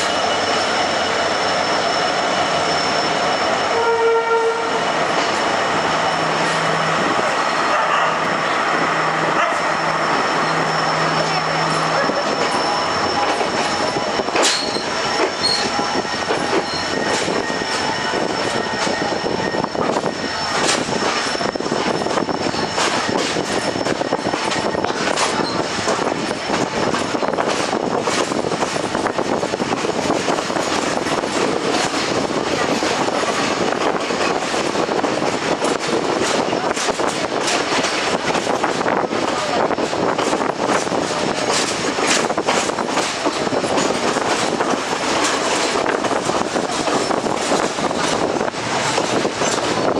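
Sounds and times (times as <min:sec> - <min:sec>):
high wheel squeal: 0:00.0 - 0:49.9
train wheels rumbling on rails: 0:00.0 - 0:49.9.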